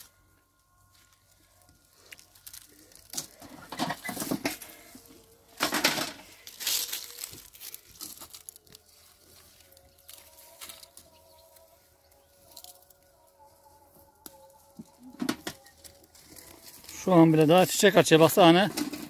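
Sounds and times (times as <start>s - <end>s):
dry okra pods rustling and crackling: 0.0s - 19.0s.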